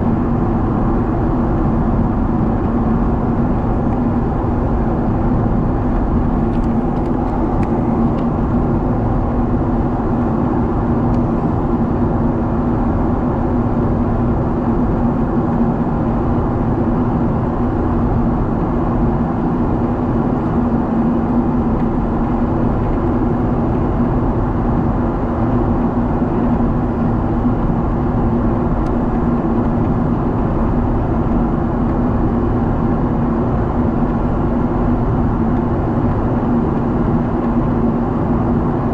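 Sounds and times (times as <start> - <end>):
aircraft cabin engine roar: 0.0 - 38.9
constant low hum: 0.0 - 38.9.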